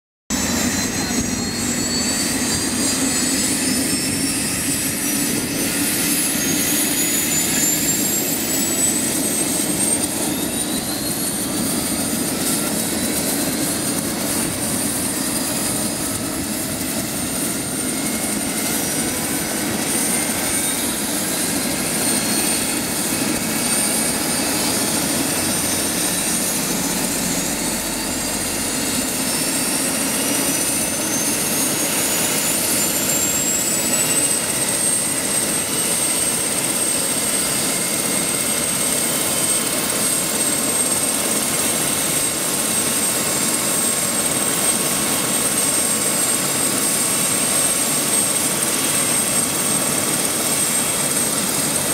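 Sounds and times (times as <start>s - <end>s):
helicopter rotor turning: 0.3s - 51.9s
helicopter turbine whine: 0.3s - 51.9s.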